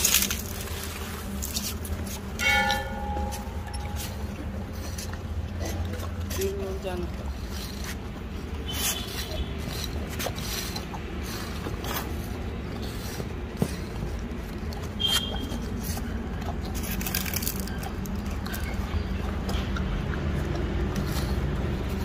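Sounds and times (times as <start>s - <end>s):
bears crunching biscuits: 0.0s - 22.0s.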